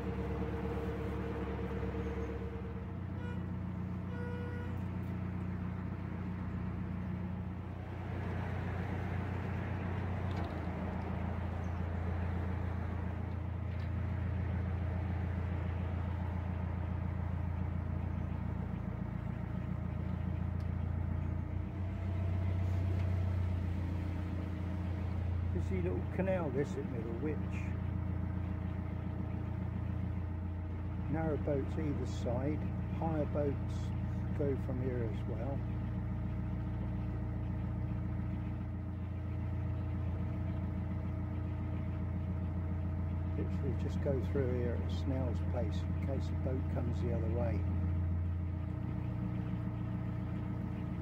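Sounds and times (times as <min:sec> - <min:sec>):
boat engine humming: 0:00.0 - 0:51.0.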